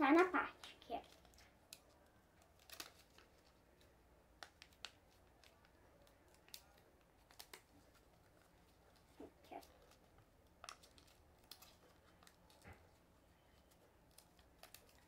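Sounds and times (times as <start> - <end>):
paper rustling while folded: 0.5 - 15.0.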